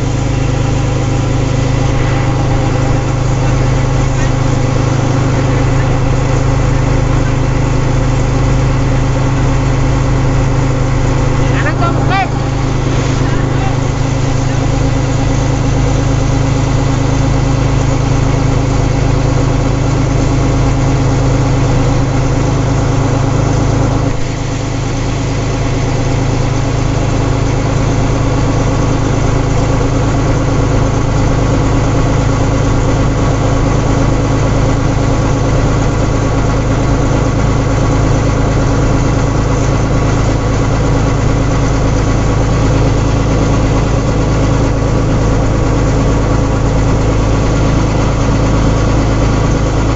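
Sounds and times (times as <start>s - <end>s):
harvesting machine engine running: 0.0s - 49.9s.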